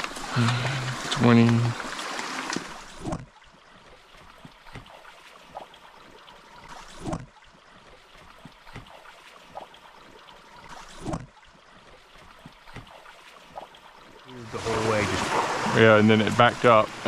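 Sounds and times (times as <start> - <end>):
stream water trickling: 0.0 - 17.0.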